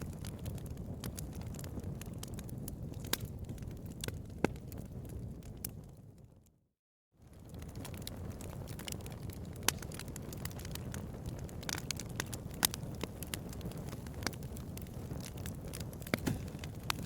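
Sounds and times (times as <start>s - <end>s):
sharp pops of burning wood: 0.0s - 5.8s, 7.3s - 17.0s
bonfire crackling: 0.0s - 6.6s, 7.2s - 17.0s.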